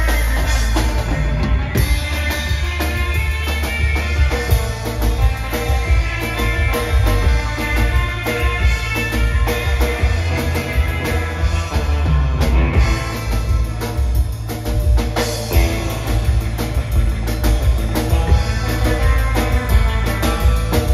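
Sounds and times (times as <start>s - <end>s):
drum kit beat: 0.0s - 20.9s
electric guitar: 0.0s - 20.9s.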